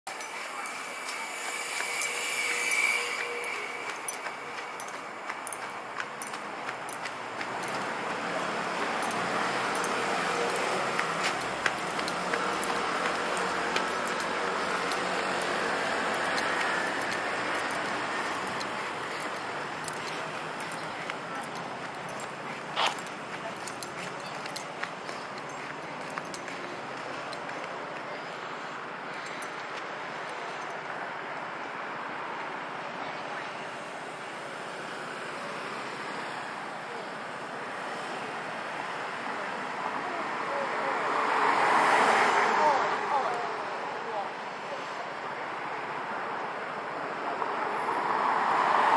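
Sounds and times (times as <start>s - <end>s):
street traffic hiss: 0.1s - 48.9s.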